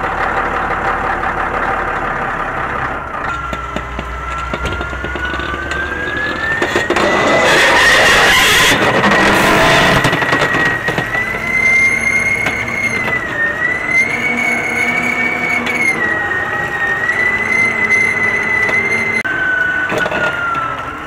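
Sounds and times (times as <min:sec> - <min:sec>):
scraper engine running: 0:03.1 - 0:21.0
high-pitched whine: 0:03.2 - 0:21.0.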